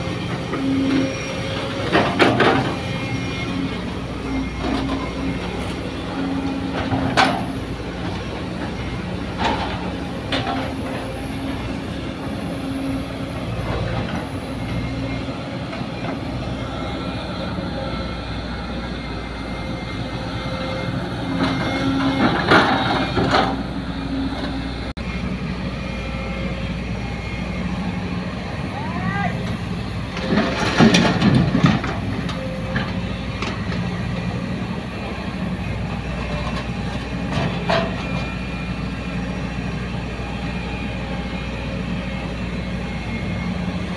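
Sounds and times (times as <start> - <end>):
diesel machinery running: 0.0 - 43.9.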